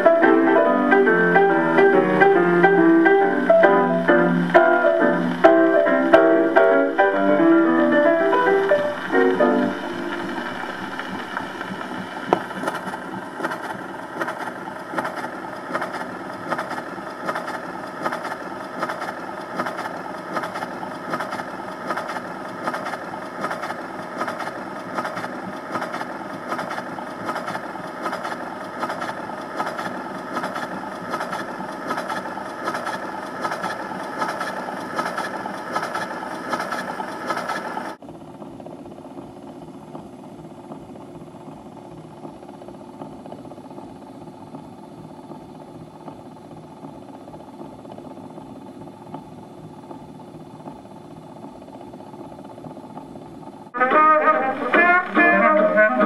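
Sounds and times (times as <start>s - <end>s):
gramophone mechanical whirr: 0.0s - 56.0s.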